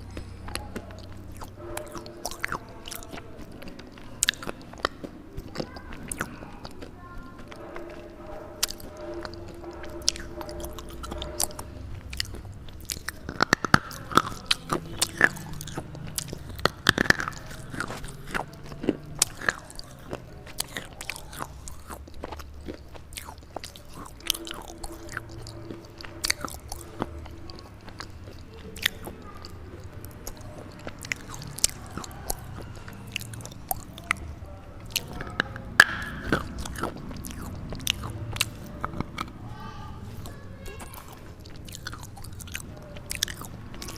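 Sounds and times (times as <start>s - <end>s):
crunchy chewing: 0.0s - 43.9s.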